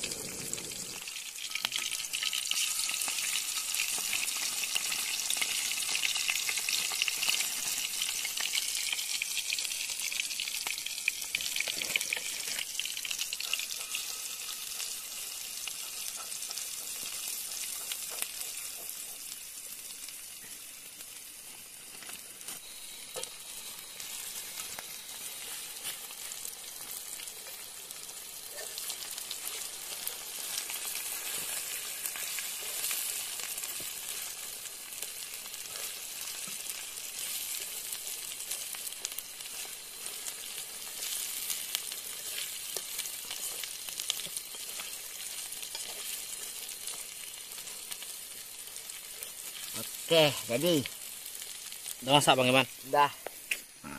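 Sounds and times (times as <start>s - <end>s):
food frying sizzle: 0.0s - 53.9s.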